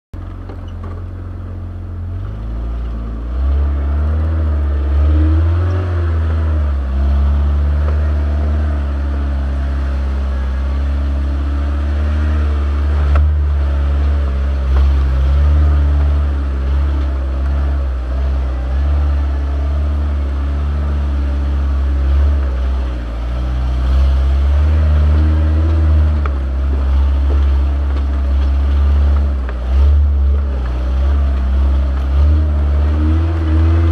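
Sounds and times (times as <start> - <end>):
vehicle engine running: 0.2 - 33.9.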